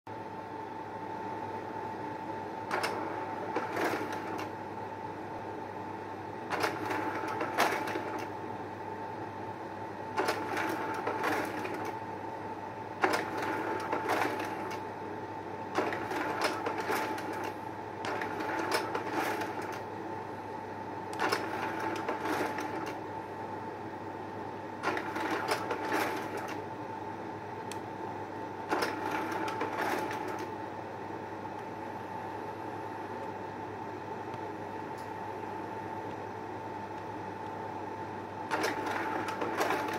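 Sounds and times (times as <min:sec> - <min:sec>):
projector fan hum: 0:00.1 - 0:39.9.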